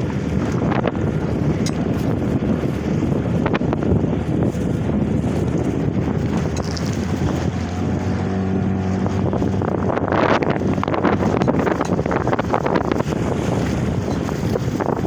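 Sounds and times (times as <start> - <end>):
outboard motor droning: 0.0 - 15.0
wind buffeting microphone: 0.0 - 15.0.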